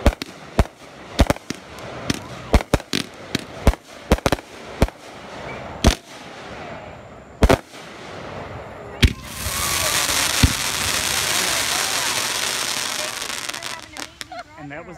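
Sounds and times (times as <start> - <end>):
fireworks bangs: 0.0 - 14.4
fireworks crackling: 0.0 - 14.5.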